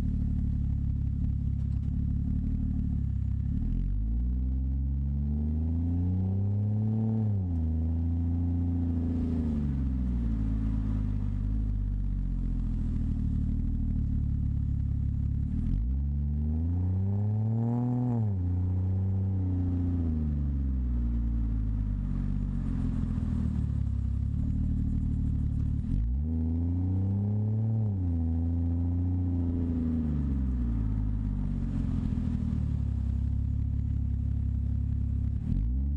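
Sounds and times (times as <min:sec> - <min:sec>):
car exhaust idling and revving: 0:00.0 - 0:35.9.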